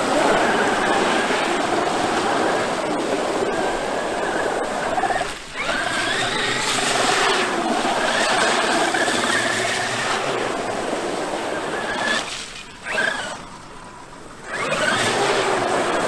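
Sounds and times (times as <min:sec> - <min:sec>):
rc truck electric motor whining: 0:00.0 - 0:13.7, 0:14.3 - 0:16.0.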